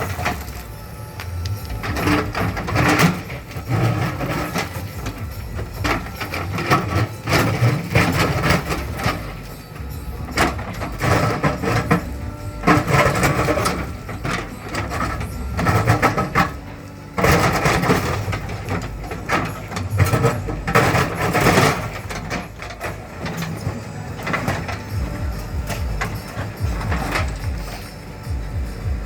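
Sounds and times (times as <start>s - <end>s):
bucket scraping and knocking soil: 0.0s - 29.0s
diesel engine running under load: 0.0s - 29.0s.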